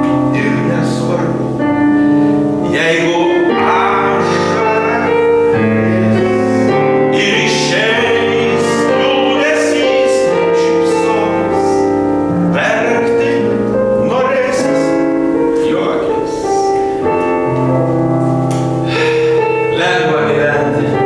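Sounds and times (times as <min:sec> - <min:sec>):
baritone singing: 0:00.0 - 0:17.8, 0:18.8 - 0:21.0
piano accompaniment: 0:00.0 - 0:21.0.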